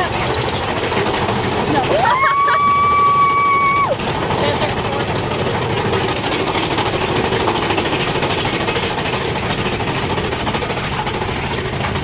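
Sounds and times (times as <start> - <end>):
roller coaster cars rattling on track: 0.0 - 12.0.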